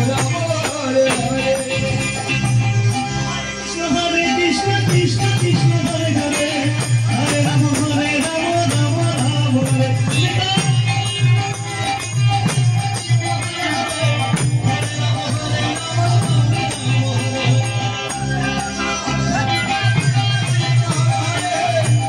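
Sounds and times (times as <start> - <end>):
jingling hand cymbals: 0.0 - 3.7, 4.8 - 22.0
harmonium held notes: 0.0 - 22.0.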